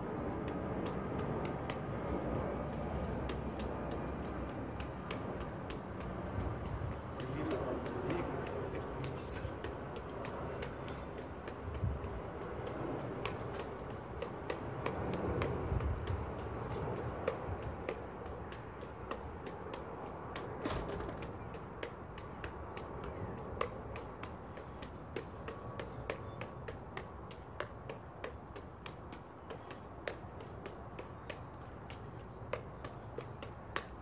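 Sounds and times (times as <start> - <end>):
juggling clubs slapping into palms: 0.0 - 34.0.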